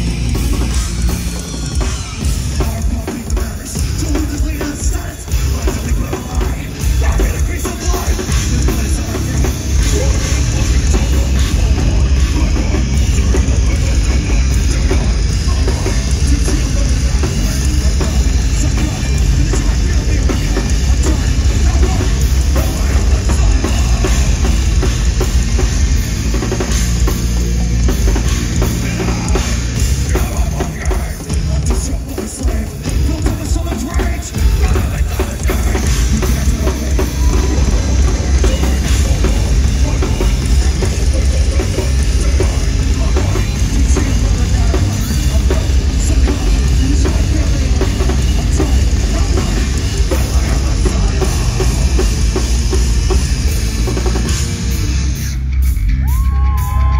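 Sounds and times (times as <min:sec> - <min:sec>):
heavy drums: 0:00.0 - 0:56.9
metal band playing live: 0:00.0 - 0:56.9
person singing into microphone: 0:02.2 - 0:24.9, 0:27.6 - 0:52.4.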